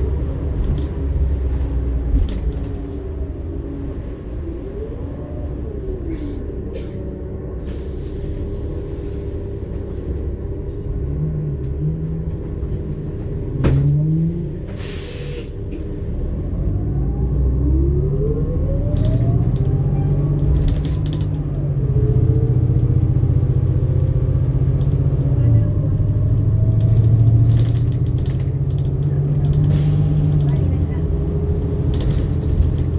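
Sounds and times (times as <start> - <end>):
bus engine rumbling: 0.0 - 32.9.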